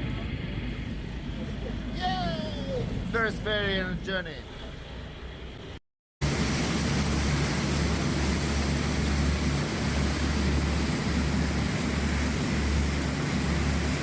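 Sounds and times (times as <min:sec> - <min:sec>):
constant rushing noise: 0:00.0 - 0:14.0
ferry engine droning: 0:00.0 - 0:14.0.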